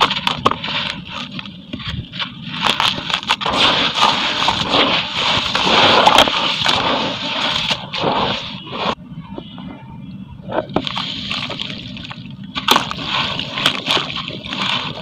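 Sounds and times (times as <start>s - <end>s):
concrete crackling in water: 0.0s - 9.0s, 10.6s - 15.0s.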